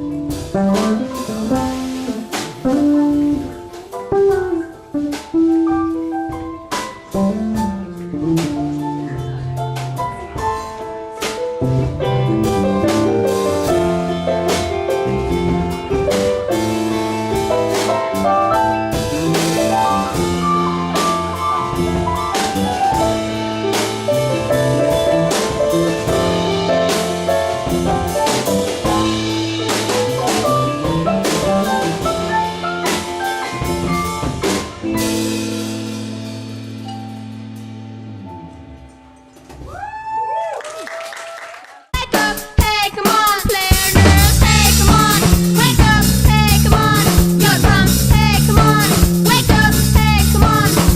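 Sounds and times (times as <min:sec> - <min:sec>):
live band playing: 0:00.0 - 0:39.6, 0:42.0 - 0:50.9
drum kit hitting: 0:00.0 - 0:40.0, 0:42.0 - 0:50.9.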